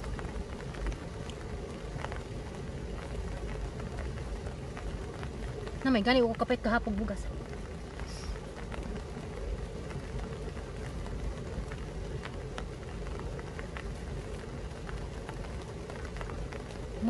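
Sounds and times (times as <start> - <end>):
low rumble: 0.0 - 17.0
steady rain falling: 0.0 - 17.0.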